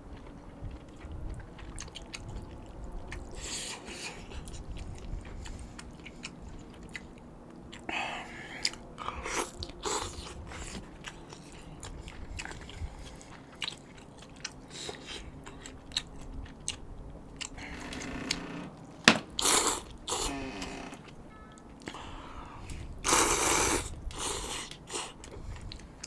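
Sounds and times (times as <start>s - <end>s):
person chewing noodles: 0.0s - 18.1s, 19.4s - 26.0s.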